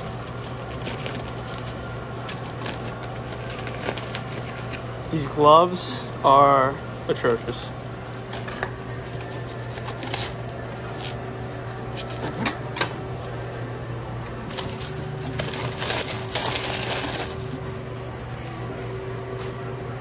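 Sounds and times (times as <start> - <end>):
paper wrapper crinkling: 0.0 - 19.1
steady low hum: 0.0 - 20.0.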